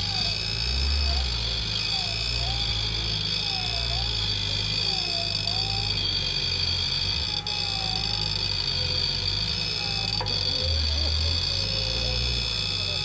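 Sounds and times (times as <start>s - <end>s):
faint wavering whine: 0.0s - 13.0s
vehicle engine droning: 0.0s - 13.0s.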